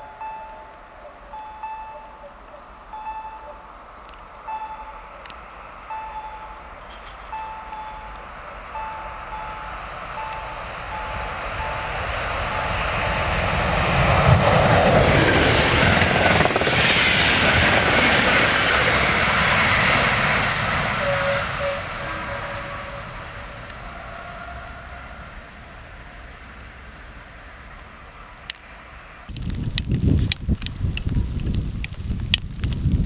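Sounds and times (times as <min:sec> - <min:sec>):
passenger train passing at speed: 0:00.0 - 0:29.4.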